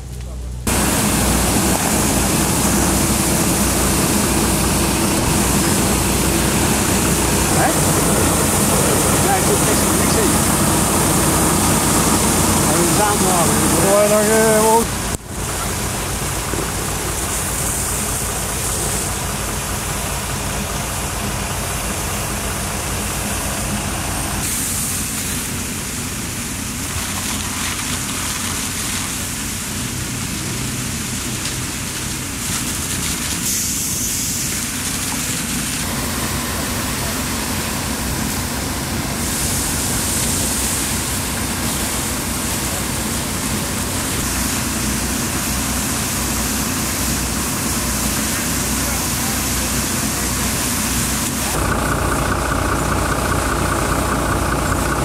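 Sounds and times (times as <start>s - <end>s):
fire engine pump running: 0.0s - 55.0s
water jet hissing: 0.7s - 55.0s.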